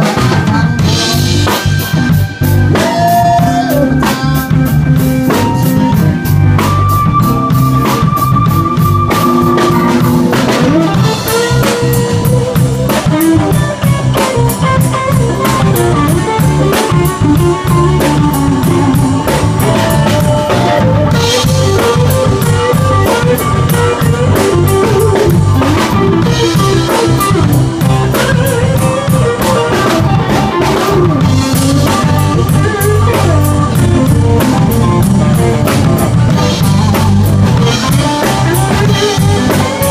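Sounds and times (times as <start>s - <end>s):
blues guitar lines: 0.0s - 39.9s
drum kit beat: 0.0s - 39.9s.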